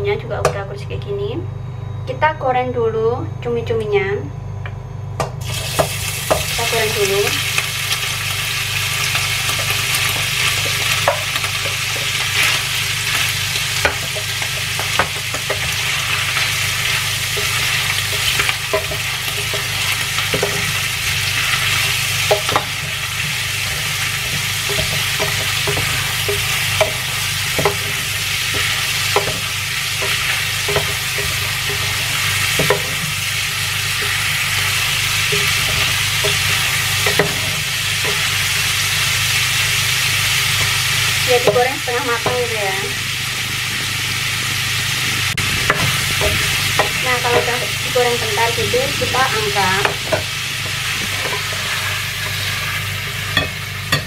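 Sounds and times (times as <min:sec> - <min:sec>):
octopus sizzling in hot oil: 0:05.4 - 0:54.0.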